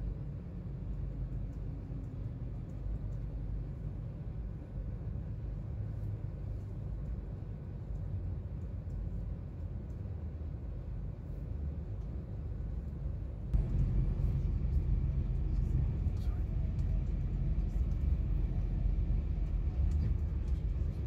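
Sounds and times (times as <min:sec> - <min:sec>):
train rumble from inside carriage: 0:00.0 - 0:21.0.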